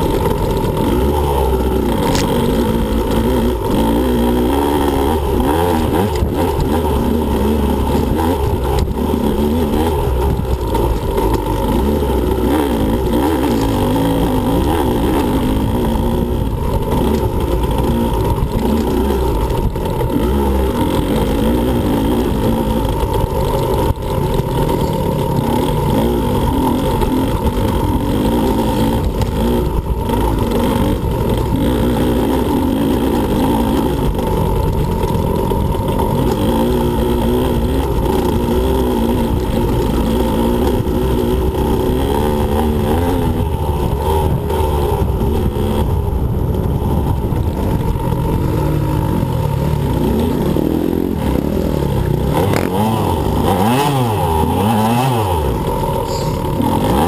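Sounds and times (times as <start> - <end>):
two-stroke dirt bike revving: 0.0 - 57.0.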